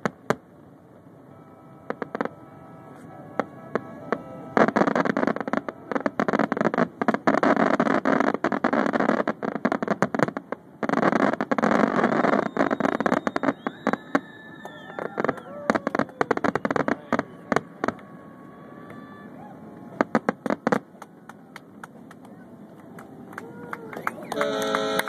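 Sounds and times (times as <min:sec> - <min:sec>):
fireworks bangs and crackling: 0:00.0 - 0:00.6, 0:01.4 - 0:22.8.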